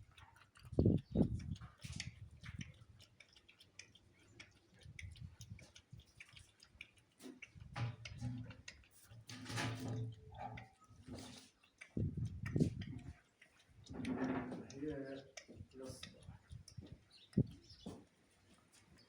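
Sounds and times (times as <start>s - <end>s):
dog lapping: 0.0s - 17.8s.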